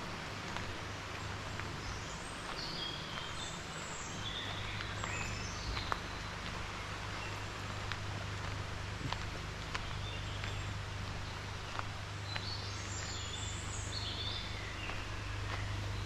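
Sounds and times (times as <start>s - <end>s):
outdoor noise with low hum: 0.0s - 16.0s
small birds chirping: 0.0s - 16.0s.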